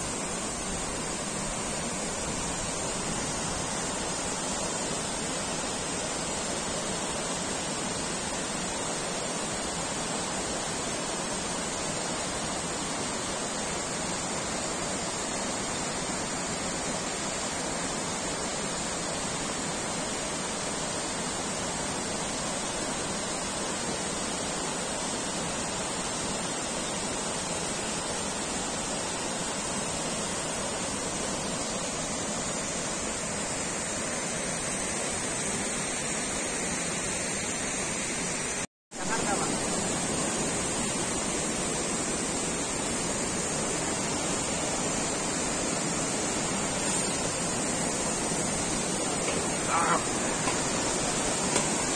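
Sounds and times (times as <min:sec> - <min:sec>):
waterfall roar: 0:00.0 - 0:51.9.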